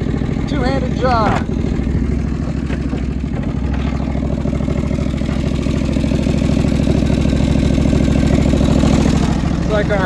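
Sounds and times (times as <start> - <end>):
garden tractor engine running: 0.0 - 10.0.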